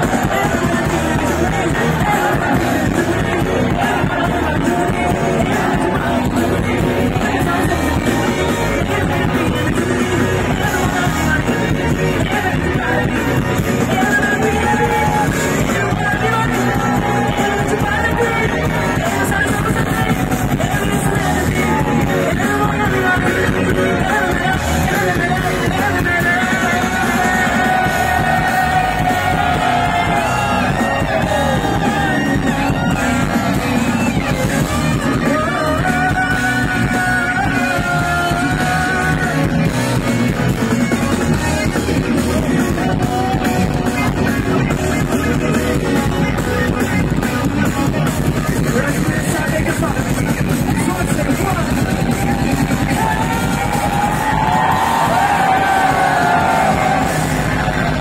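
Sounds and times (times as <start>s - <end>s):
man singing: 0.0s - 40.1s, 41.6s - 53.7s
live rock band: 0.0s - 58.0s.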